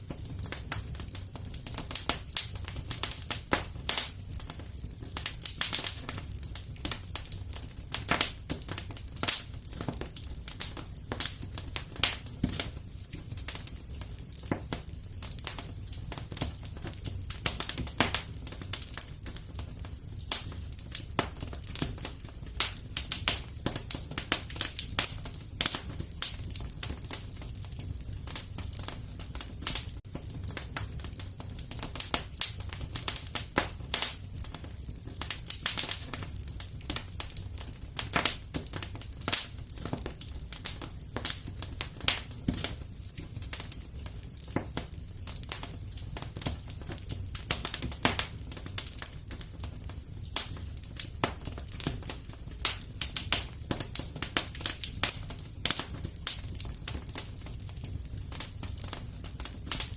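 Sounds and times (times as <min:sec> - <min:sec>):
low rumble of flames: 0:00.0 - 0:59.9
wood fire crackling: 0:00.0 - 0:59.9.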